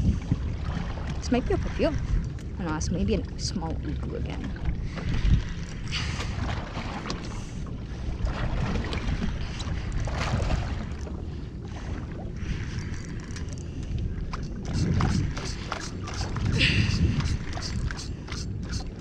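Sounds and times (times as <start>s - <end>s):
water moving around boat: 0.0s - 19.0s
wind buffeting microphone: 0.0s - 19.0s.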